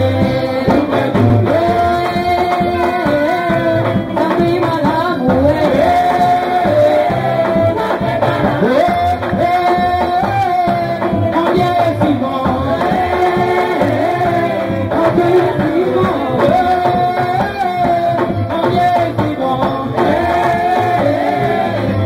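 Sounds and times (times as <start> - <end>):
festive music with singing: 0.0 - 22.0
steady drum beat: 0.0 - 22.0.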